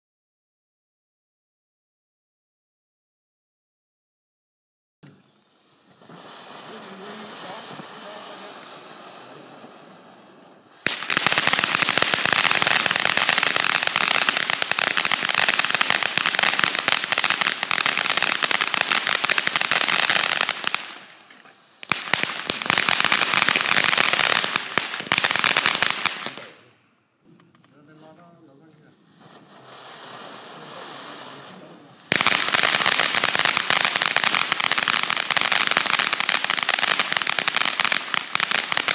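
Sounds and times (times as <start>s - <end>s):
firework fountain hissing: 5.0s - 26.7s, 27.5s - 38.9s
firework fountain crackling: 5.0s - 26.8s, 27.4s - 38.9s.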